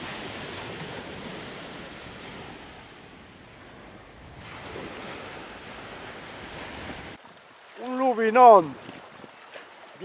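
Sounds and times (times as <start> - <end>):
waves breaking on a beach: 0.0 - 10.0.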